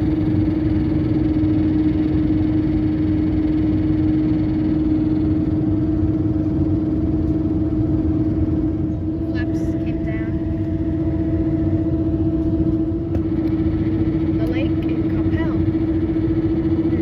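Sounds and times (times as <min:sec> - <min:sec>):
aircraft cabin engine rumble: 0:00.0 - 0:17.0
constant droning tone: 0:00.0 - 0:17.0.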